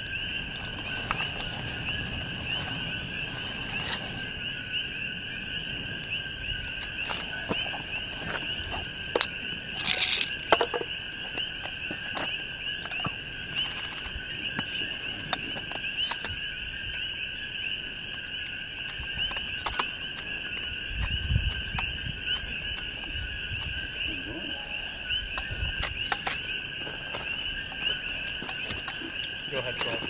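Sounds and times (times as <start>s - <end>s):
chorus of chirping frogs: 0.0s - 30.0s.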